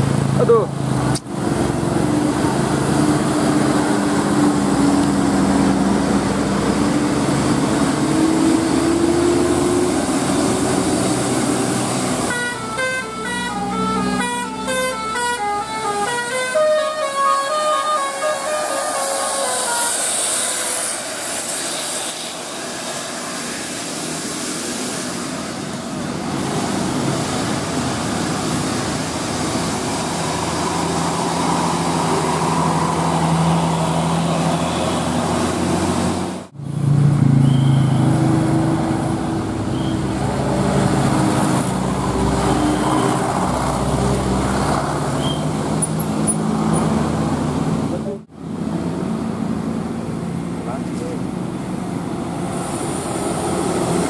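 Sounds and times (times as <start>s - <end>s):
coach diesel engines passing: 0.0s - 54.0s
road noise: 0.0s - 54.0s.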